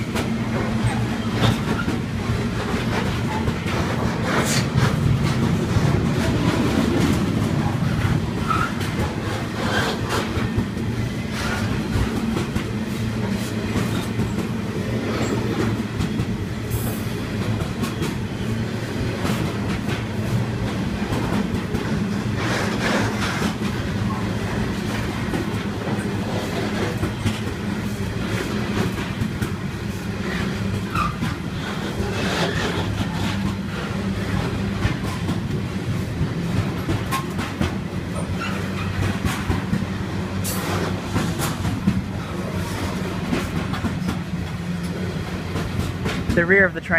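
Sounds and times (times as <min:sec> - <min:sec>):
train wagons rumbling: 0:00.0 - 0:46.9
wheels clicking over rail joints: 0:00.1 - 0:46.5.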